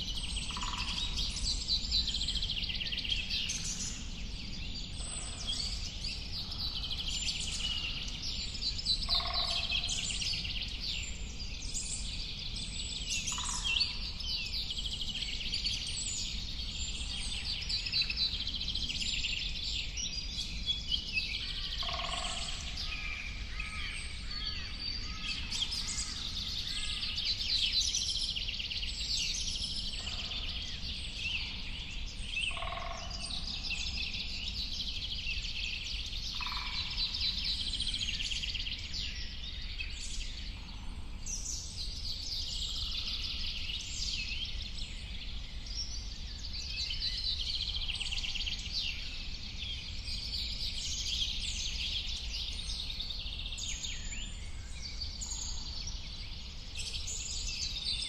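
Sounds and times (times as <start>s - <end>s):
birds chirping chorus: 0.0s - 58.0s.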